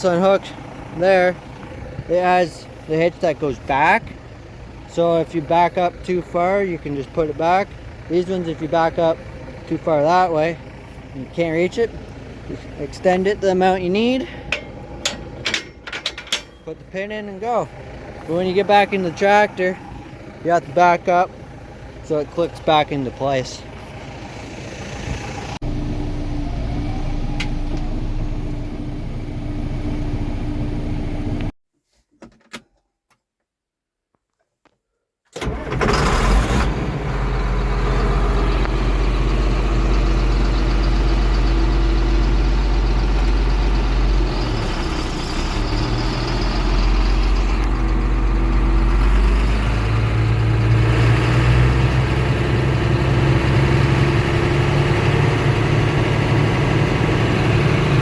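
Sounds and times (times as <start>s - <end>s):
tractor engine running: 0.0s - 31.5s, 35.4s - 58.0s.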